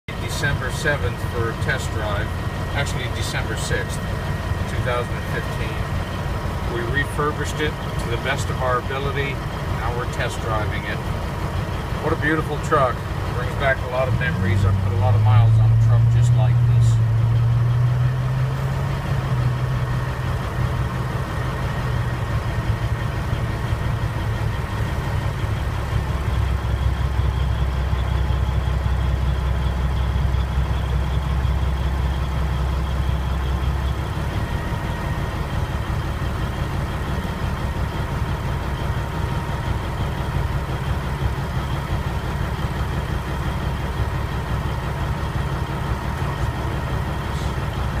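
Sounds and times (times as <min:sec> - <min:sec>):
truck diesel engine running: 0:00.1 - 0:48.0.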